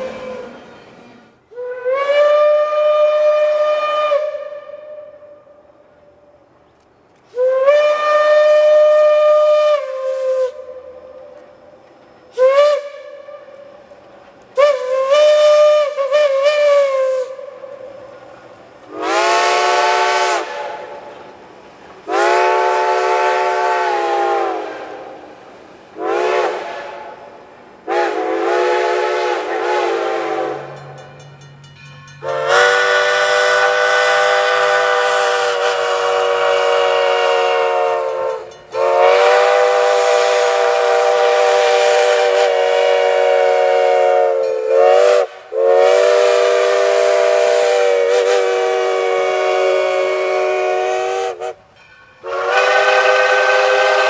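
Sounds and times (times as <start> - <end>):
steam whistle blasts: 0.0 - 6.4, 7.2 - 21.3, 22.0 - 25.4, 26.0 - 31.0, 32.2 - 54.0.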